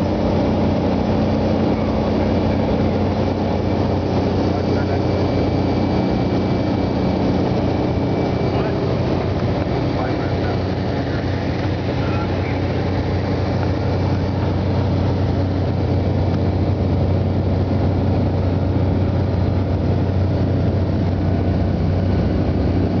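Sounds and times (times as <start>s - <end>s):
vehicle engine drone: 0.0s - 23.0s.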